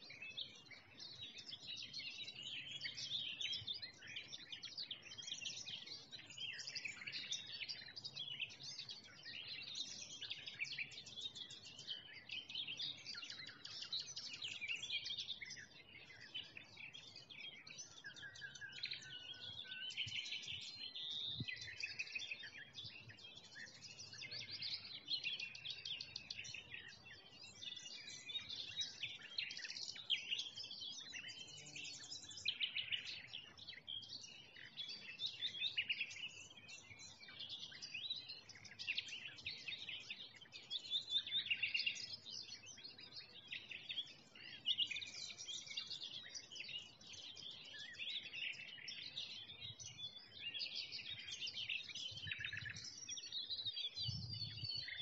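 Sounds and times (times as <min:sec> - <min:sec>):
songbirds chorus: 0:00.0 - 0:55.0.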